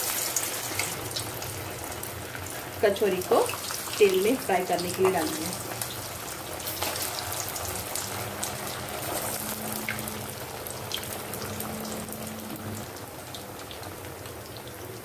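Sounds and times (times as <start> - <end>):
food deep-frying in hot oil: 0.0 - 15.0
oil crackling and popping: 0.0 - 15.0.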